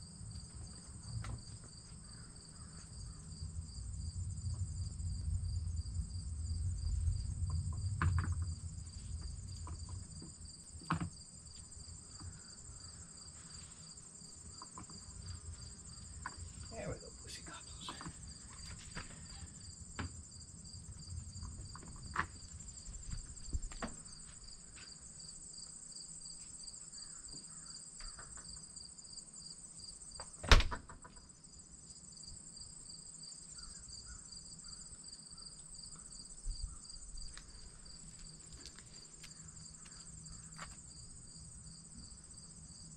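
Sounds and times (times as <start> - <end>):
insects chirping: 0.0 - 42.9.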